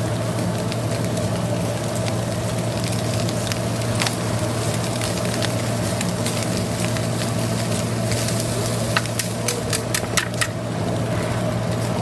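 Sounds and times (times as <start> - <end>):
gas flame hum: 0.0 - 12.0
small crackles and pops: 0.0 - 12.0.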